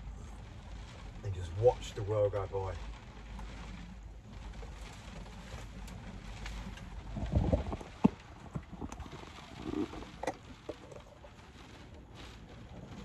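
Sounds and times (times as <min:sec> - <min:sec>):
rain on a van: 0:00.0 - 0:13.0
wind: 0:00.0 - 0:13.0.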